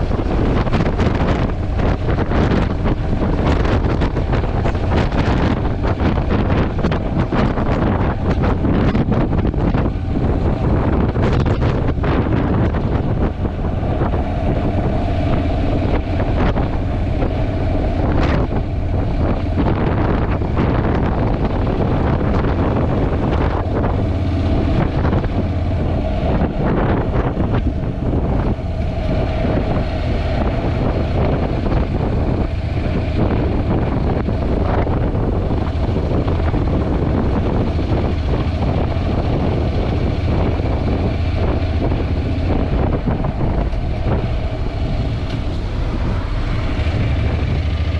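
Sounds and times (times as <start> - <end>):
motorcycle engine: 0.0 - 47.9
road noise: 0.0 - 47.9
wind buffeting microphone: 0.0 - 47.9.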